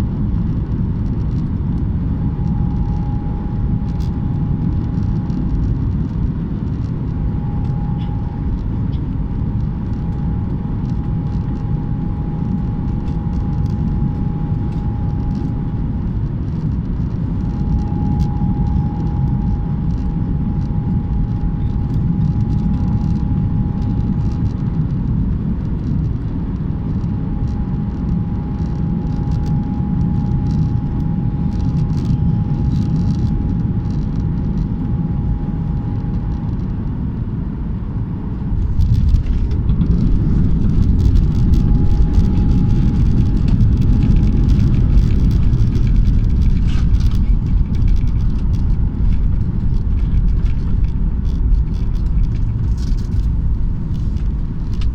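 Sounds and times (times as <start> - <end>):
jet engine and airflow roar: 0.0 - 54.9
thin steady whine: 0.0 - 54.9.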